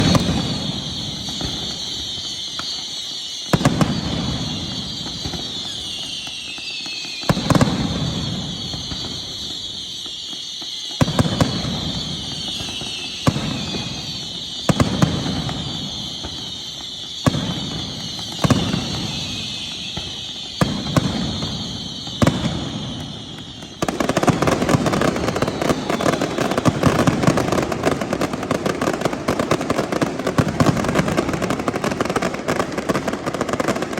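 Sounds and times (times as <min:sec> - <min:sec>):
fireworks bangs: 0:00.0 - 0:33.9
fireworks whistles sliding down: 0:00.0 - 0:33.9.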